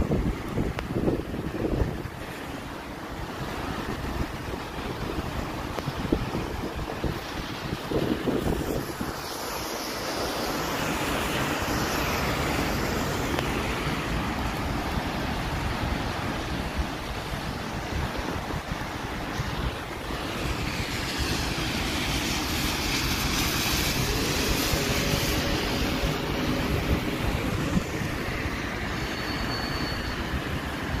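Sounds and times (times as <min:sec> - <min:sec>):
wind buffeting microphone: 0:00.0 - 0:29.0
heavy rain: 0:00.0 - 0:31.0.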